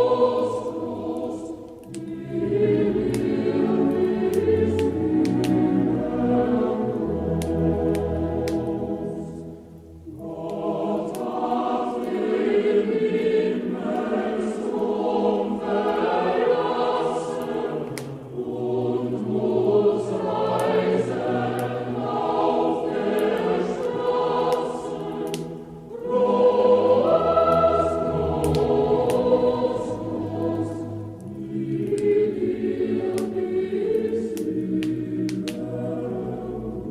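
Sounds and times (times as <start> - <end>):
choir singing: 0.0 - 36.9.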